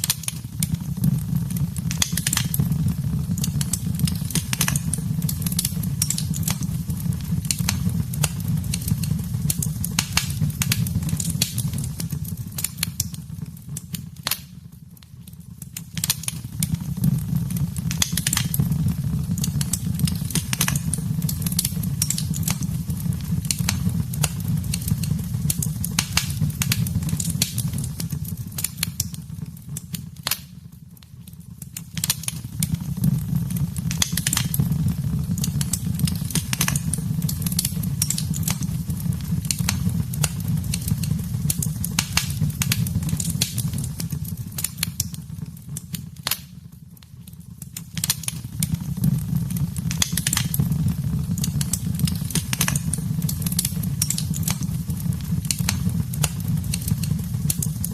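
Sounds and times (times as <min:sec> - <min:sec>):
low rumble of fire: 0:00.0 - 0:57.9
wood fire crackling: 0:00.0 - 0:57.9.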